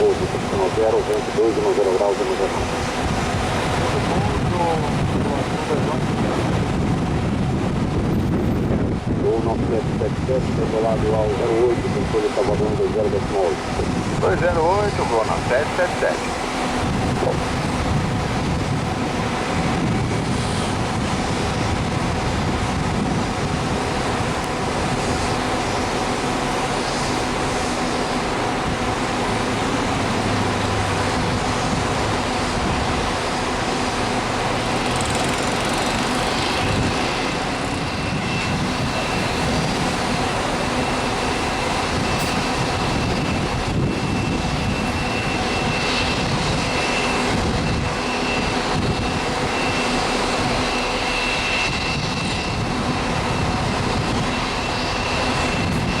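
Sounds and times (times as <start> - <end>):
high steady whine: 0.0 - 56.0
jet engines running: 0.0 - 56.0.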